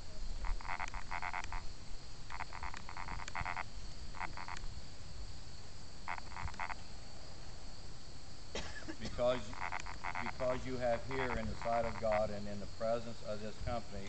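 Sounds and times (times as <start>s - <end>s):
faint high hum: 0.0s - 14.0s
frogs croaking: 0.0s - 14.0s.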